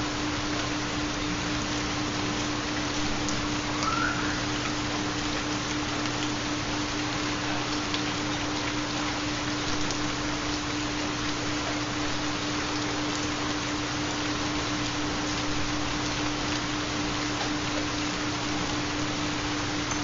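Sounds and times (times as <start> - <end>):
rain: 0.0 - 20.0.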